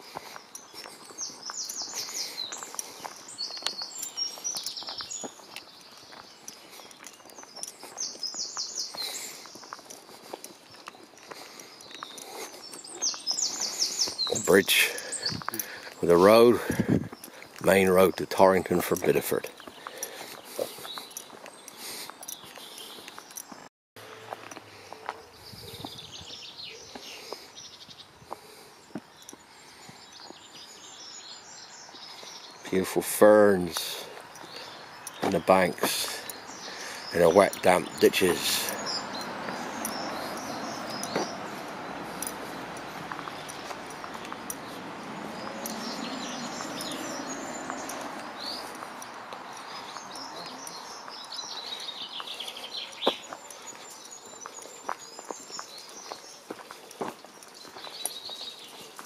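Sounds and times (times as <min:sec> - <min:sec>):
footsteps on path: 0:00.0 - 0:59.0
outdoor hush: 0:00.0 - 0:59.0
songbirds chirping: 0:00.0 - 0:59.0.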